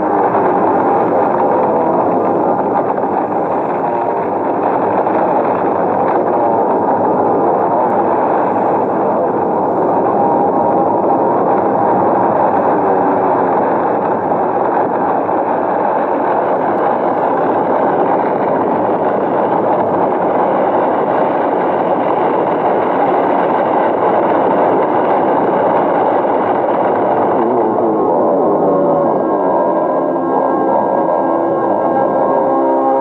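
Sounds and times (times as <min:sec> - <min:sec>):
loud rushing roar: 0:00.0 - 0:33.0.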